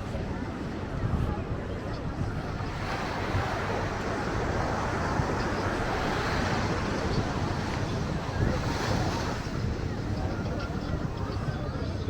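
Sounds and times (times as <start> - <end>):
surf: 0.0 - 12.0.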